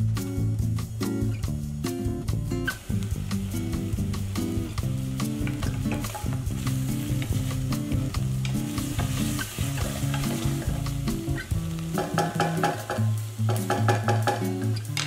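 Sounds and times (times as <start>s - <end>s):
background music with bass line: 0.0s - 15.0s
reduction sizzling: 0.1s - 15.0s.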